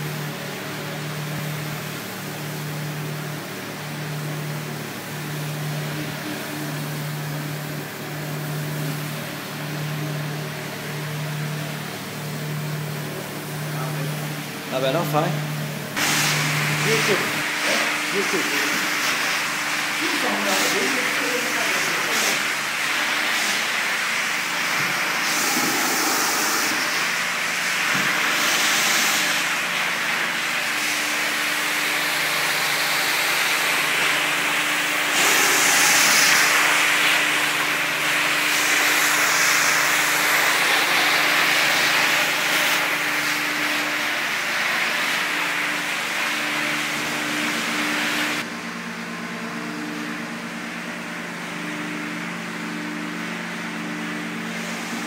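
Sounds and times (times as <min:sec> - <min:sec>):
floor-cleaning machine running: 0:00.0 - 0:55.0.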